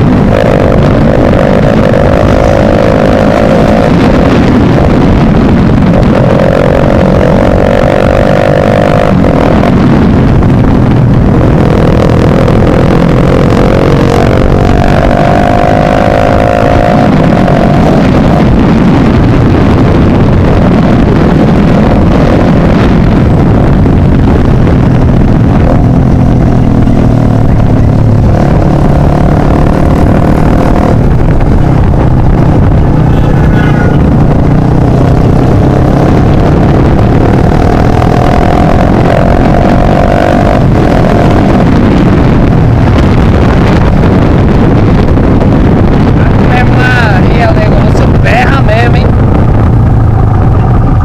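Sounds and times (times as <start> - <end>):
constant rushing noise: 0.0 - 51.0
motorcycle engine revving: 0.0 - 51.0.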